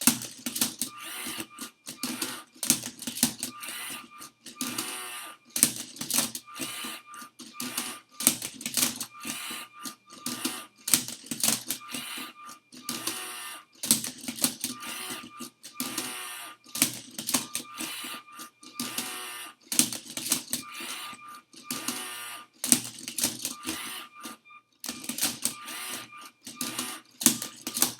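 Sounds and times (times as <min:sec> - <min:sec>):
motors whirring: 0:00.0 - 0:27.9
plastic parts clacking: 0:00.0 - 0:27.9.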